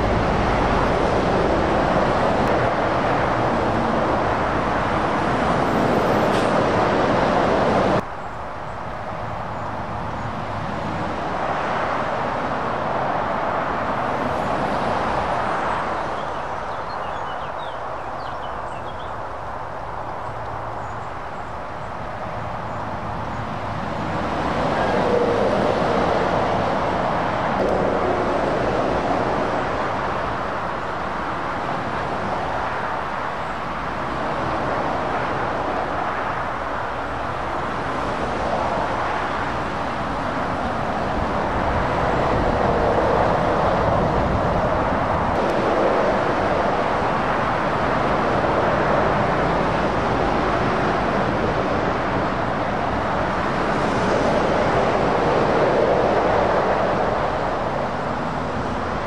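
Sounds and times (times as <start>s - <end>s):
motorway traffic passing: 0.0s - 59.0s.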